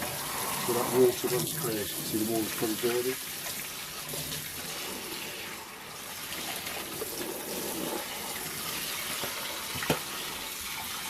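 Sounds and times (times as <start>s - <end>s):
tap water running: 0.0s - 11.0s.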